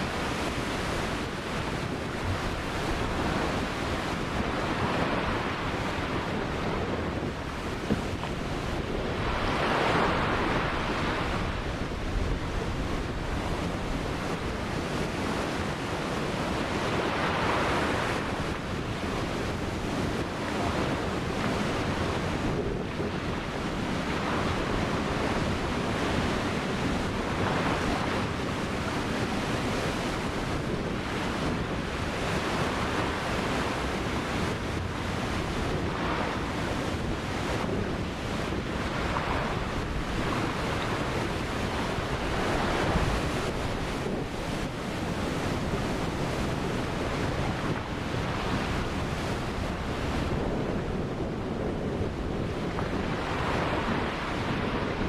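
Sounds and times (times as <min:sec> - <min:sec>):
waves breaking on shore: 0:00.0 - 0:55.0
wind rumble on microphone: 0:00.0 - 0:55.0.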